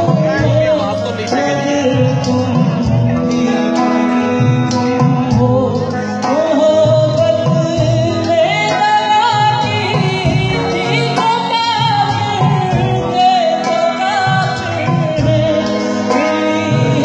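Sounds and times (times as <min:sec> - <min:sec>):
loud live band music: 0:00.0 - 0:17.0.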